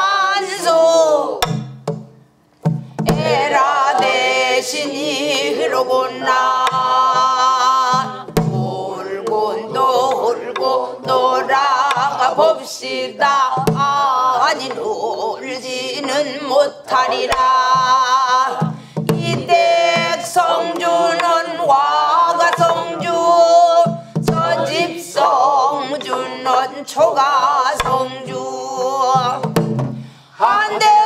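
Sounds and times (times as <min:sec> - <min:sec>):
woman singing folk song: 0:00.0 - 0:01.6, 0:03.0 - 0:29.6, 0:30.3 - 0:31.0
stick striking barrel drum: 0:01.4 - 0:15.0, 0:15.6 - 0:30.1.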